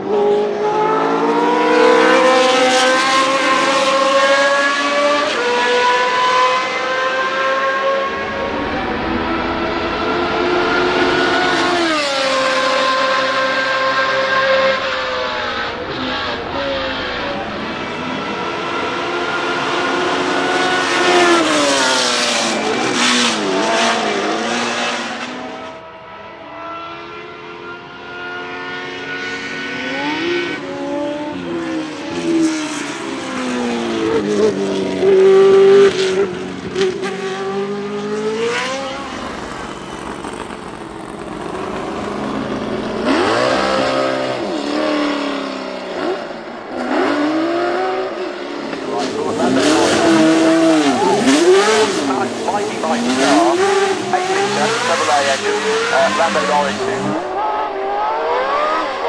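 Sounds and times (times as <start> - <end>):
race cars passing at speed: 0.0 - 59.0.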